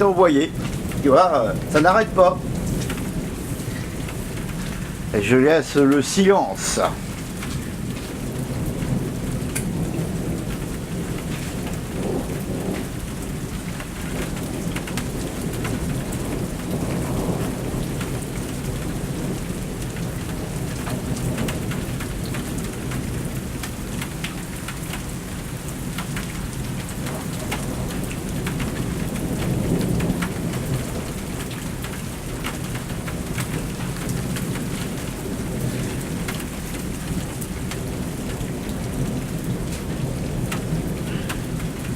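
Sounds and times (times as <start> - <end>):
thunder rumbling: 0.0 - 23.9, 26.6 - 41.9
steady rain falling: 0.0 - 41.9.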